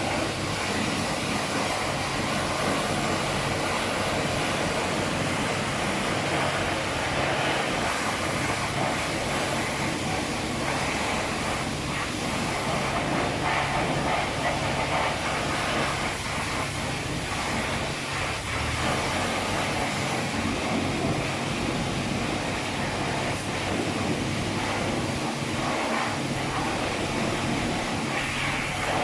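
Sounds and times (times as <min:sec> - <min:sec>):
car wash water spray and machinery: 0:00.0 - 0:29.0.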